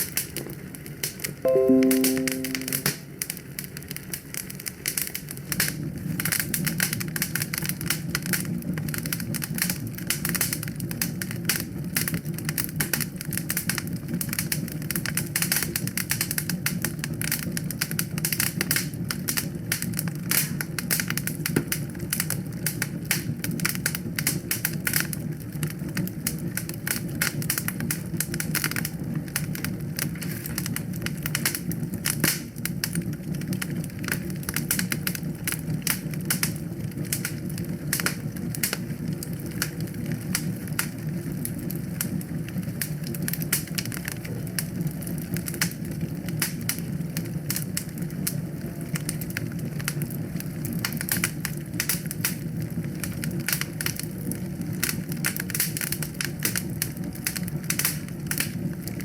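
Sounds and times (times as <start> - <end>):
low rumble of flames: 0.0 - 1.4, 3.6 - 59.0
wood fire crackling and popping: 0.0 - 1.4, 3.3 - 59.0.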